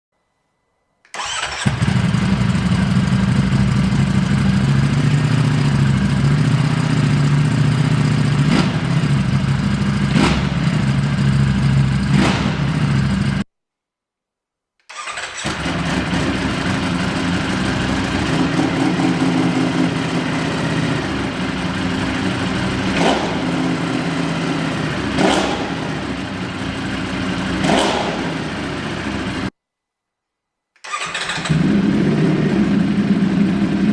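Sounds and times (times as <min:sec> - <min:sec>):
motorcycle engine idling: 0:01.2 - 0:13.4, 0:15.0 - 0:29.5, 0:31.0 - 0:33.9.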